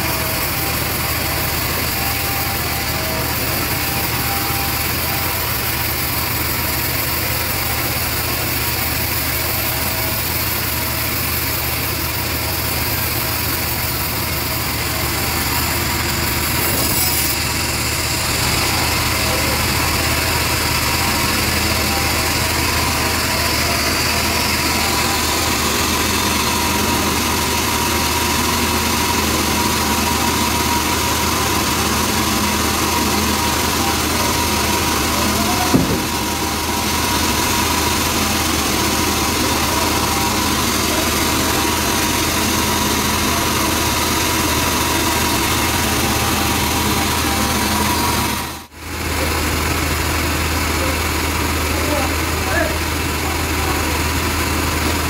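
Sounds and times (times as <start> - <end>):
band sawmill cutting log: 0.0 - 55.0.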